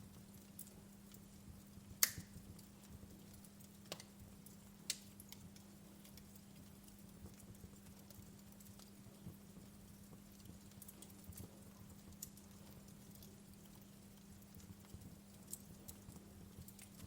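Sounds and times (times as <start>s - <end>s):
logs crackling in fireplace: 0.0s - 17.0s.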